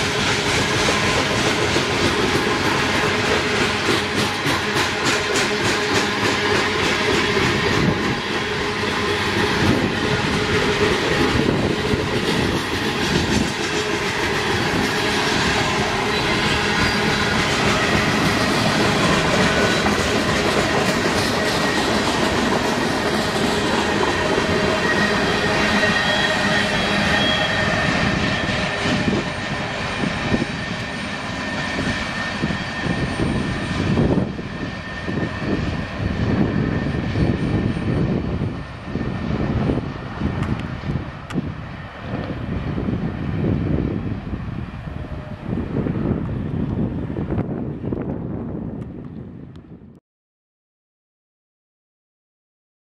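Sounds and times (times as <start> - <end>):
freight train wheels rumbling: 0.0 - 49.7.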